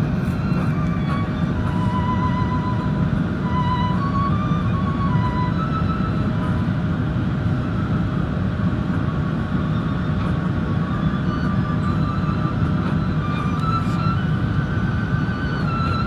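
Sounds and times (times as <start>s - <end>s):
jet airliner rumble: 0.0s - 16.0s.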